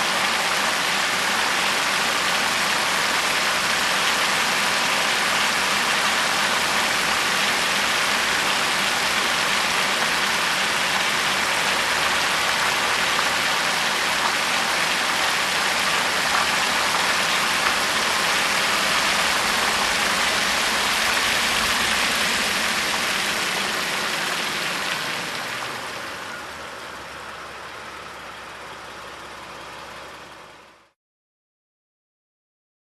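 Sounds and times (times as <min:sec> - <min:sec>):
car engine running: 0:00.0 - 0:30.9
road noise: 0:00.0 - 0:30.9.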